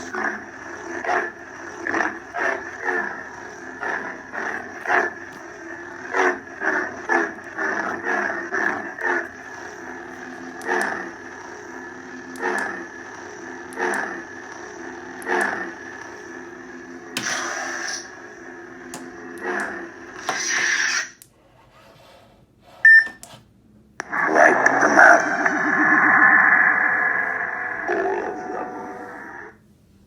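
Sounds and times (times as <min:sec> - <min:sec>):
electric blade hum: 0:00.0 - 0:21.2, 0:24.0 - 0:29.5.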